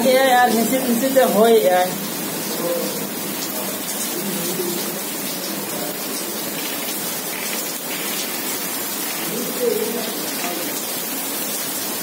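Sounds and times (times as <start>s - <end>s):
heavy rain on paving and grass: 0.0s - 12.0s.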